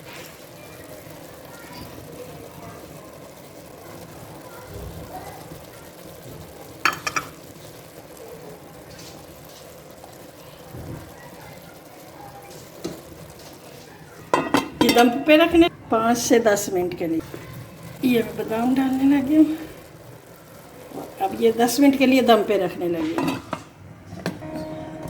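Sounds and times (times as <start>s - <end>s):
rice sizzling in syrup: 0.0s - 25.0s.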